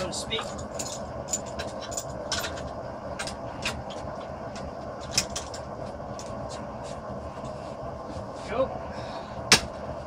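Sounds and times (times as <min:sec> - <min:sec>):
steady rumbling background: 0:00.0 - 0:10.0.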